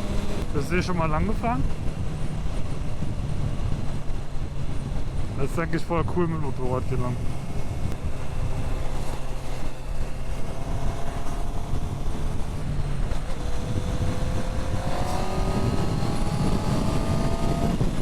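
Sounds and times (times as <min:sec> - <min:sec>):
motorcycle engine while riding: 0:00.0 - 0:18.0.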